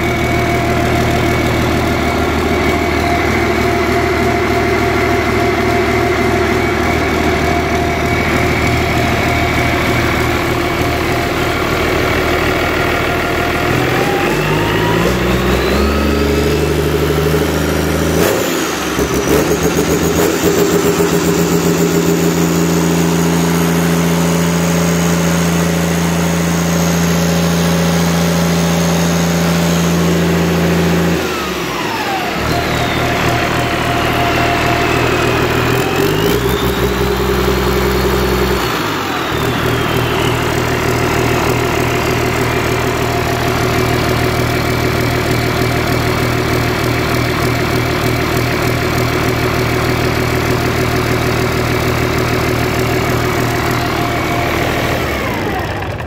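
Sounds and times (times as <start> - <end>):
diesel engine idling and revving: 0.0 - 56.0
engine whine: 0.0 - 56.0.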